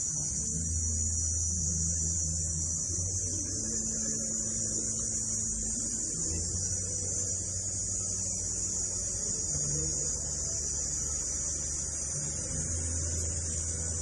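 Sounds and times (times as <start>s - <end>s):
cicada buzzing: 0.0s - 14.0s.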